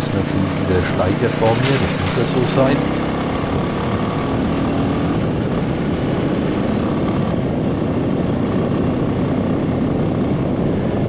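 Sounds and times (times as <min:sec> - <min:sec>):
motorcycle engine burbling: 0:00.0 - 0:11.0
wind and road noise: 0:00.0 - 0:11.0.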